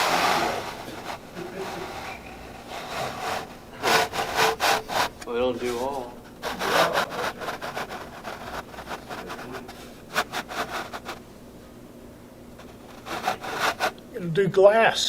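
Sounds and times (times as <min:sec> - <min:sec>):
objects scraping and knocking: 0:00.0 - 0:11.2, 0:12.6 - 0:14.0
faint steady hum: 0:00.0 - 0:15.0.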